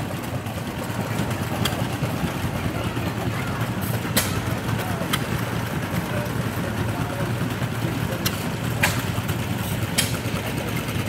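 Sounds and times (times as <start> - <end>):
stationary engine rumbling: 0.0 - 11.0.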